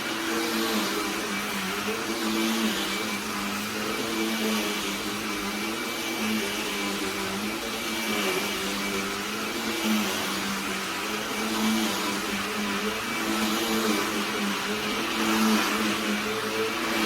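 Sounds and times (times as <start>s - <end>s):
handheld vacuum running: 0.0s - 17.0s.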